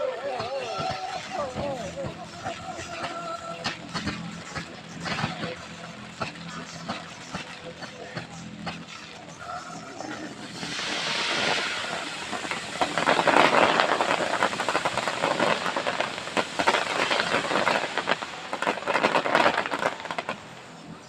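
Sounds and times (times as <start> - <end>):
firework hiss: 0.0 - 21.0
fireworks crackling: 0.0 - 21.0.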